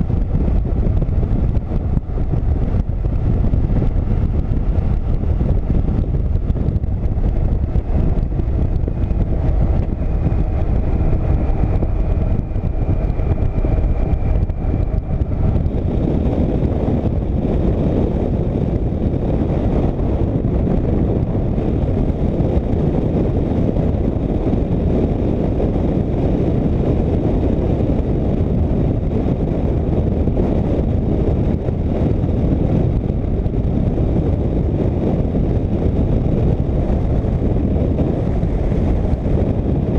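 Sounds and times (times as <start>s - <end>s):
motorcycle engine drone: 0.0s - 39.9s
wind rush over microphone: 0.0s - 39.9s.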